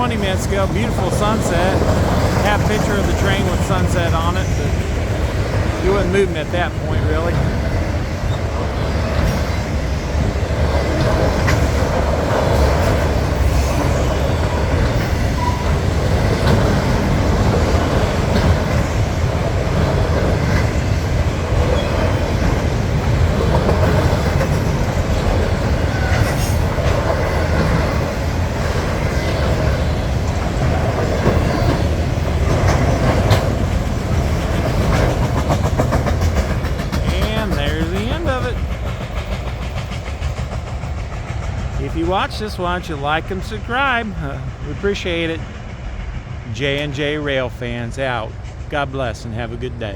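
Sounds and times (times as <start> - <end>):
steel wheels clacking on rail joints: 0.0 - 47.0
freight train rumbling past: 0.0 - 49.9.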